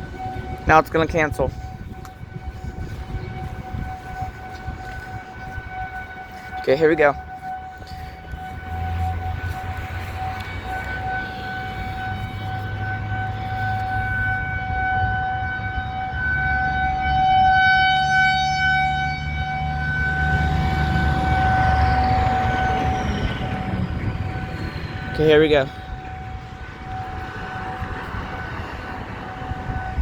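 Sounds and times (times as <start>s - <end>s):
rotating warning siren: 0.0s - 30.0s.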